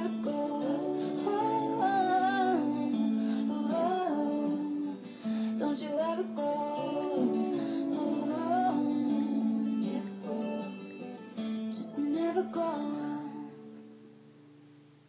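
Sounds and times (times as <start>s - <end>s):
woman singing: 0.0s - 10.7s, 11.7s - 13.7s
strummed acoustic guitar: 0.0s - 14.6s.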